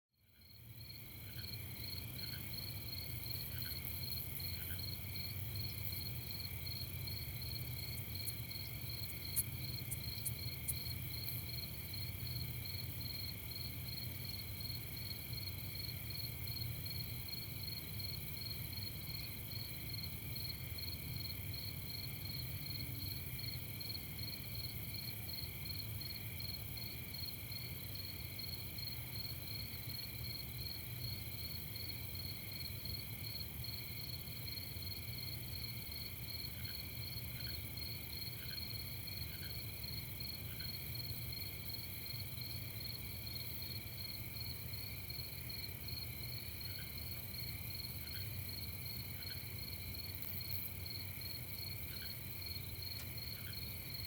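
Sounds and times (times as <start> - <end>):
crickets chirping: 0.2 - 54.0.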